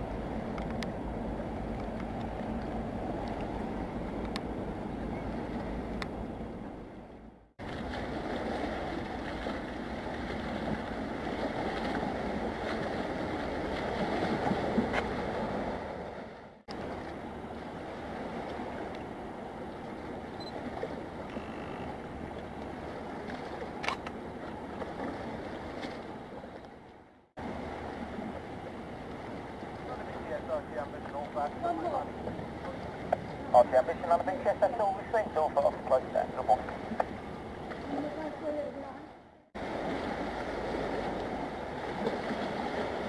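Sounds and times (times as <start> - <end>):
water noise: 0.0 - 43.0
wind: 0.0 - 43.0.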